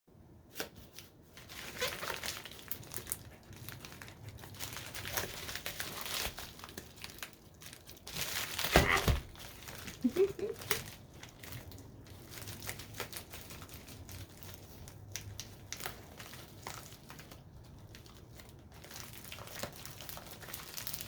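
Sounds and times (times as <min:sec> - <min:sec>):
packaging crinkling and rustling: 0:00.4 - 0:21.0.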